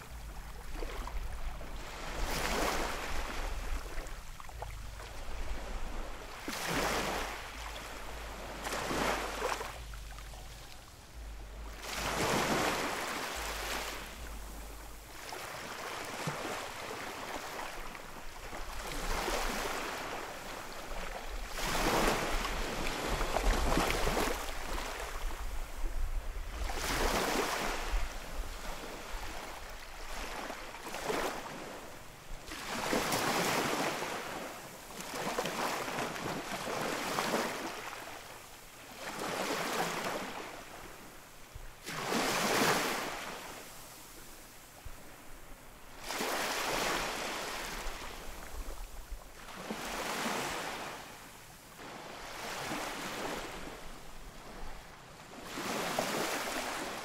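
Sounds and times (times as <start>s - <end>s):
ocean waves breaking: 0.0s - 25.5s, 32.5s - 38.2s, 41.8s - 44.3s, 45.0s - 57.0s.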